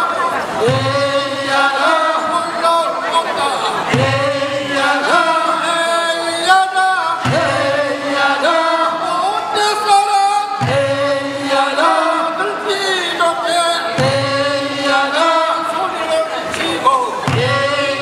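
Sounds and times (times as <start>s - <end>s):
men chanting work song: 0.0s - 18.0s.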